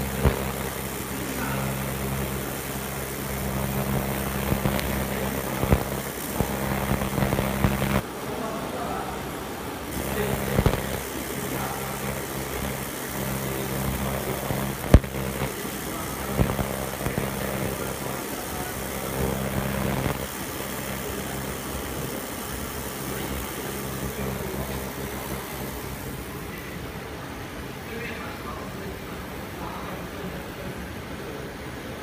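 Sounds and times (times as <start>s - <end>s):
machine hiss: 0.0s - 8.1s, 8.9s - 26.6s
laser cutting machine humming: 0.0s - 27.4s.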